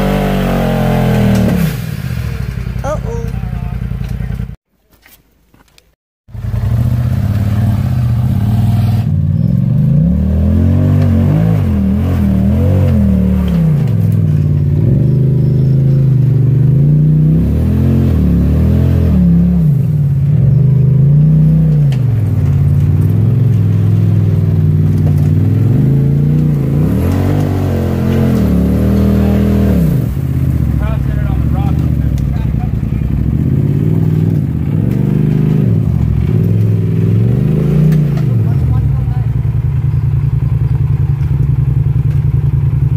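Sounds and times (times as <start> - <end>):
engine revving under load: 0.0 - 3.2, 6.3 - 39.7.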